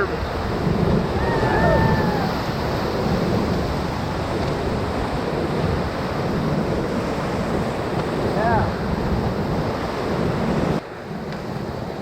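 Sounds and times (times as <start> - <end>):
whitewater rapids rushing: 0.0 - 10.9.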